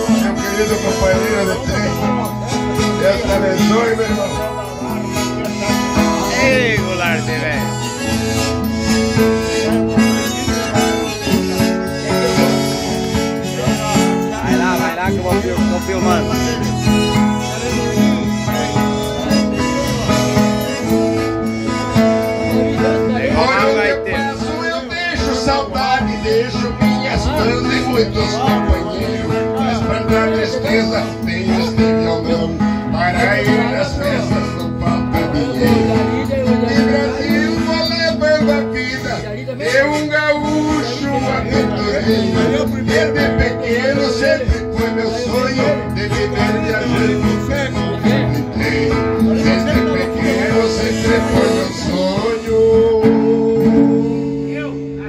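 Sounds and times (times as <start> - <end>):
accordion chords: 0.0 - 55.0
acoustic guitar strumming: 0.0 - 55.0.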